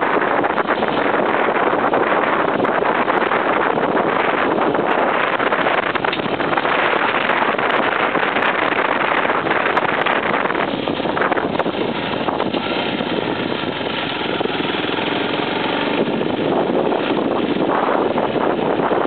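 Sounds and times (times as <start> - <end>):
off-road motorcycle engine: 0.0 - 19.0
wind noise on microphone: 0.0 - 19.0.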